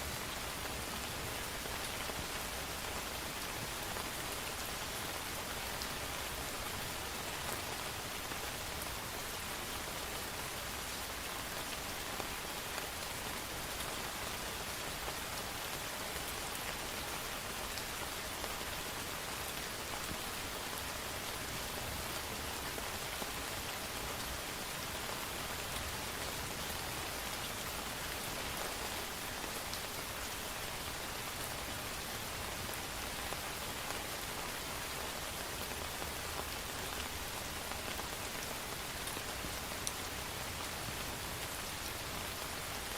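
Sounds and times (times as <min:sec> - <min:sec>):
rain pattering on hard surfaces: 0:00.1 - 0:42.9.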